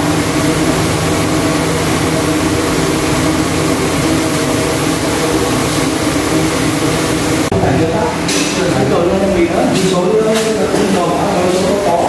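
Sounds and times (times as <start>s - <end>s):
roasting oven burner drone: 0.0s - 12.0s.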